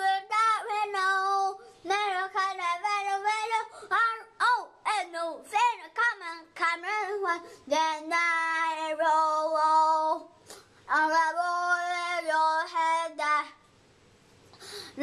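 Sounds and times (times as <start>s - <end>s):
child singing unaccompanied: 0.0s - 13.6s.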